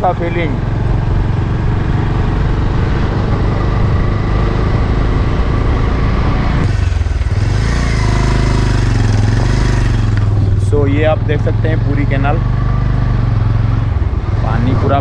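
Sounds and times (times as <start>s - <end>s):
vehicle engine running: 0.0s - 15.0s
wind rushing past vehicle: 0.0s - 15.0s.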